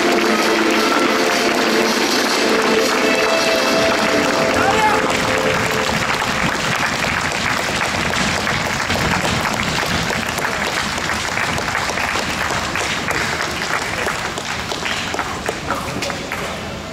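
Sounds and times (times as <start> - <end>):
audience applauding: 0.0 - 16.5.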